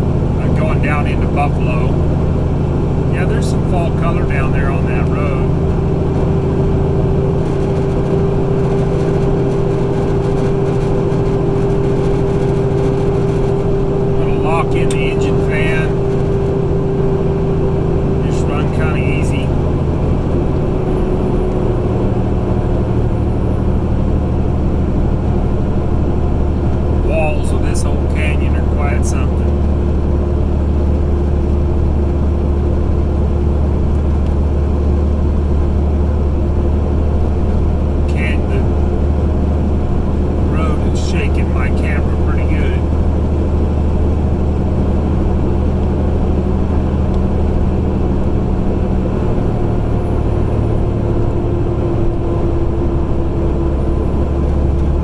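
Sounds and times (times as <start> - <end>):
diesel truck engine pulling: 0.0 - 55.0
engine cooling fan hum: 0.0 - 55.0
road noise: 0.0 - 55.0.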